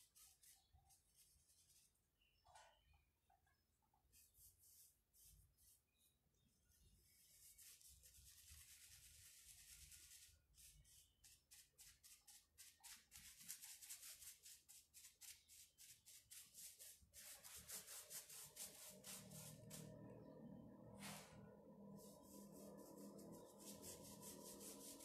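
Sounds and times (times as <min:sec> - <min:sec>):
paintbrush scrubbing on wood: 0:00.0 - 0:01.9, 0:04.1 - 0:06.0, 0:06.8 - 0:20.2, 0:22.0 - 0:25.0.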